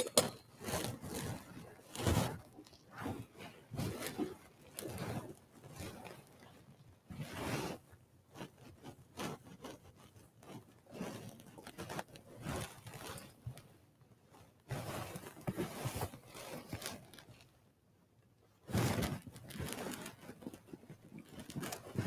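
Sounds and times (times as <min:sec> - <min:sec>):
light scrapes and clicks: 0:00.0 - 0:13.7, 0:14.3 - 0:17.6, 0:18.7 - 0:22.0
cloth rustling: 0:00.0 - 0:17.6, 0:18.6 - 0:22.0.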